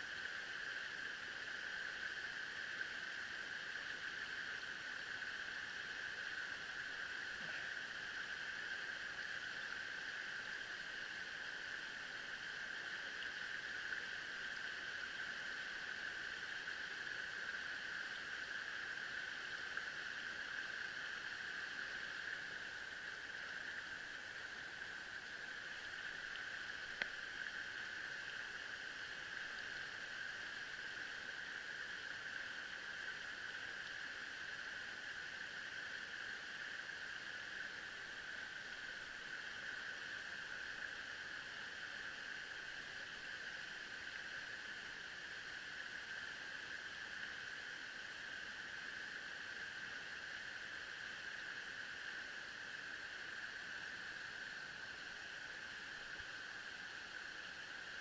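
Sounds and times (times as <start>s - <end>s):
stream water running over stones: 0.0s - 58.0s.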